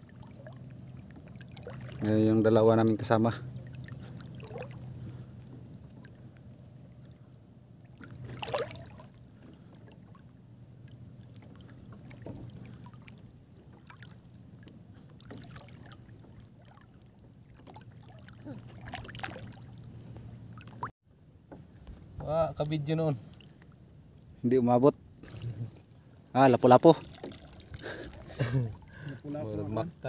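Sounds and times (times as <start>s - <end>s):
sea water lapping: 0.0s - 20.9s, 21.7s - 30.0s.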